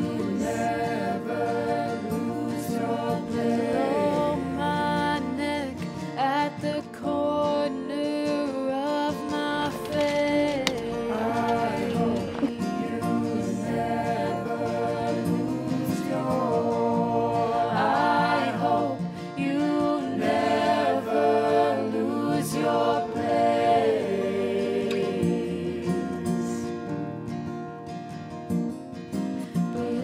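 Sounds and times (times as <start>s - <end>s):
song with harmony vocals: 0.0s - 27.6s, 29.1s - 30.0s.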